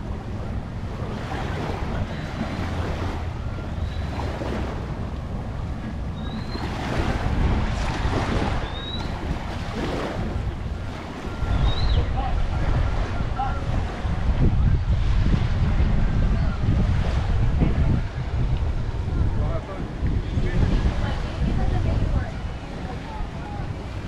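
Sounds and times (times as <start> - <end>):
waves washing on beach: 0.0 - 24.0
wind buffeting microphone: 0.0 - 24.0.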